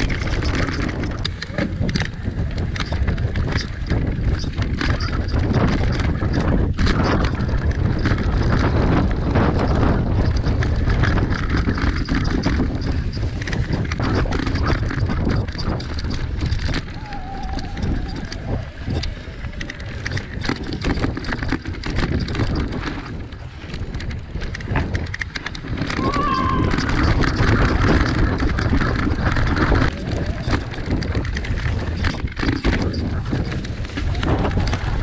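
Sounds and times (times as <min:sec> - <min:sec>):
bike rattling over bumps: 0:00.0 - 0:35.0
tyres rumbling over dirt: 0:00.0 - 0:35.0
wind buffeting microphone: 0:00.0 - 0:35.0.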